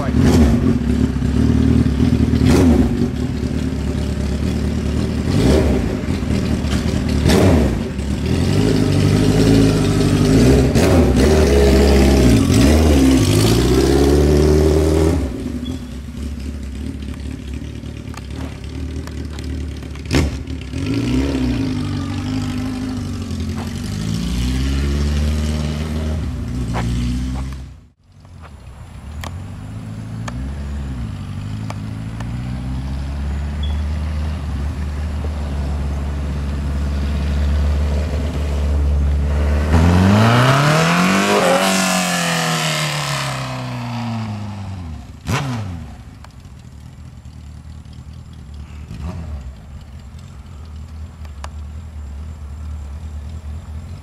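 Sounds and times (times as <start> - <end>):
motorcycle engine revving: 0.0 - 28.0, 29.2 - 54.0.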